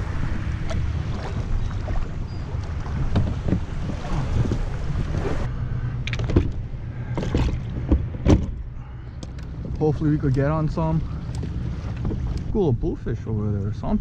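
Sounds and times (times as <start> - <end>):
wind buffeting microphone: 0.0 - 8.7, 9.5 - 13.0.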